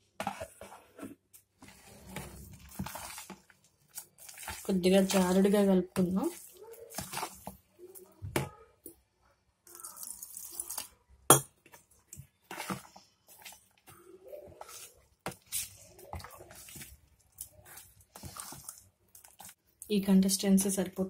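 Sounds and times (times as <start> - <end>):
spoon stirring batter in bowl: 0.0 - 9.0, 9.7 - 19.9.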